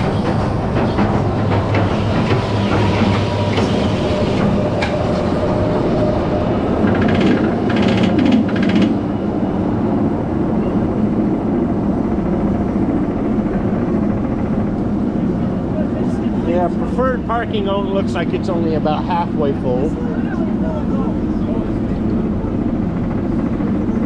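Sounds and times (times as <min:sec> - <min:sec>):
roller coaster lift rumble: 0:00.0 - 0:24.0.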